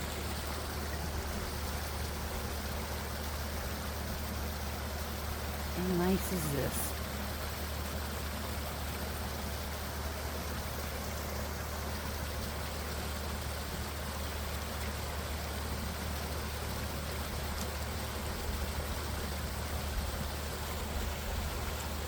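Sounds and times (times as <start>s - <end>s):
stream flowing water: 0.0s - 22.0s.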